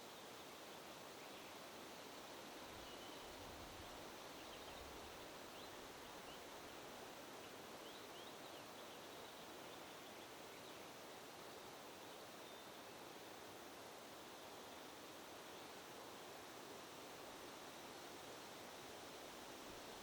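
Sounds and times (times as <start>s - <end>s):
faint wind with soft rustle: 0.0s - 20.0s.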